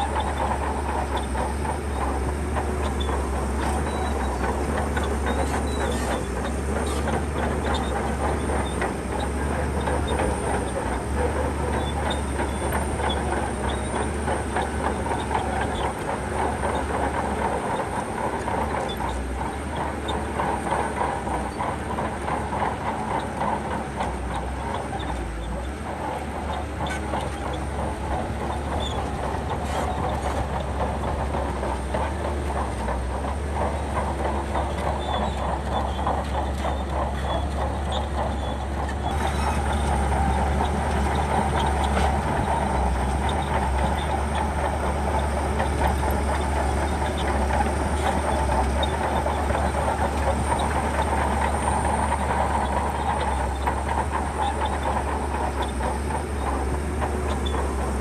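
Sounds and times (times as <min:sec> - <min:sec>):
bulldozer diesel engine under load: 0:00.0 - 0:58.0
bulldozer tracks: 0:00.0 - 0:58.0.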